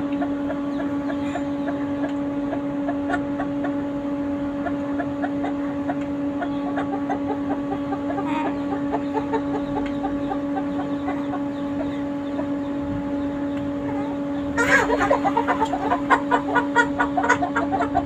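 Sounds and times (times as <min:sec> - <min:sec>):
hen clucking: 0:00.0 - 0:18.0
steady low hum: 0:00.0 - 0:18.0.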